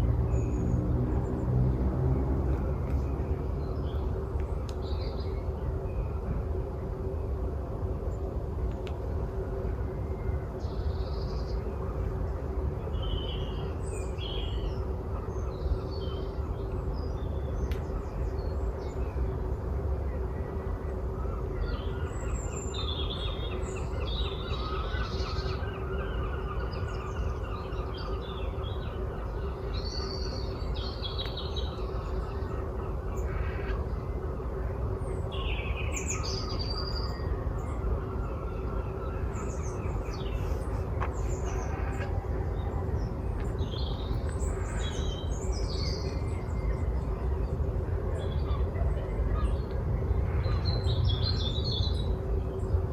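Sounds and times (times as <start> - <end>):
faint hum: 0.0 - 52.9
songbirds singing: 0.0 - 52.9
steady low rumble: 0.0 - 52.9.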